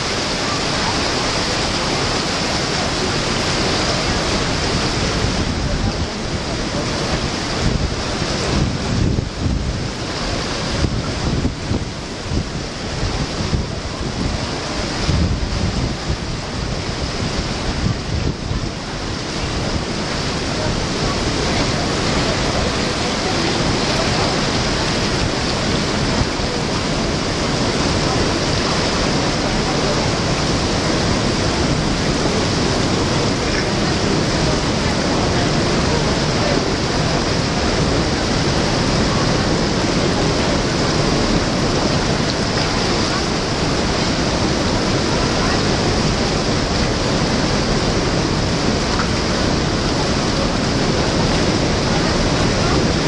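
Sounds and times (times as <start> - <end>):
water gushing and churning: 0.0 - 53.0
wind buffeting microphone: 0.0 - 53.0.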